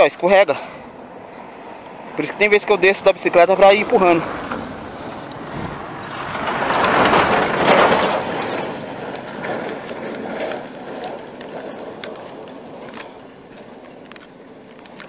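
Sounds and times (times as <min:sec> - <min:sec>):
truck passing on dirt road: 0:00.0 - 0:15.0.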